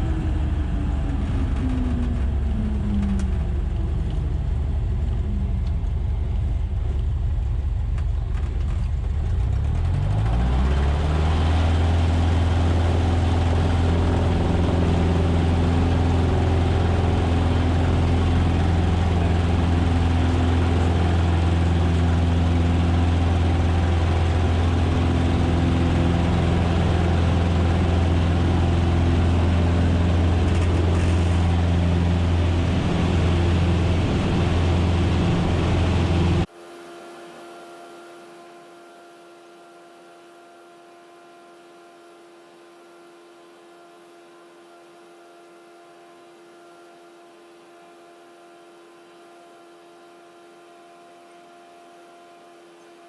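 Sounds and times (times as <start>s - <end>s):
small airplane engine throttling up: 0.0s - 53.0s.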